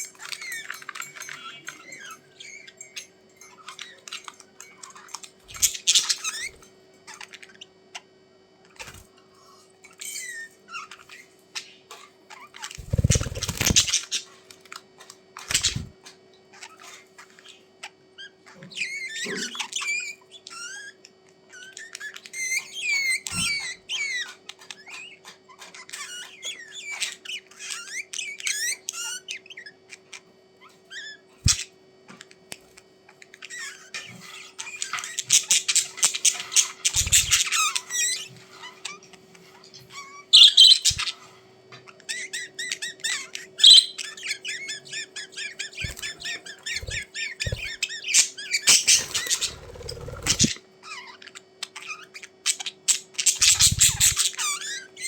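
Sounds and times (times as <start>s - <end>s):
budgerigars chirping and squawking: 0.0s - 8.0s, 8.7s - 14.6s, 15.4s - 31.8s, 32.6s - 55.0s.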